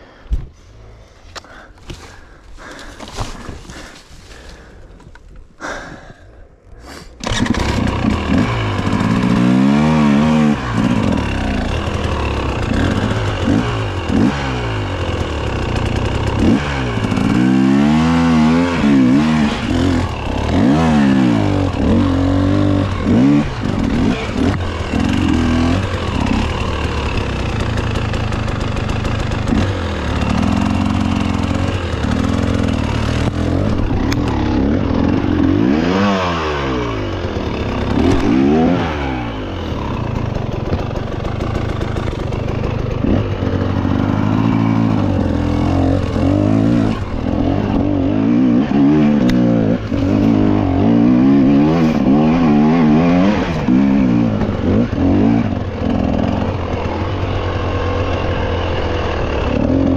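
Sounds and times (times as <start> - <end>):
dirt bike engine revving: 7.2 - 59.9.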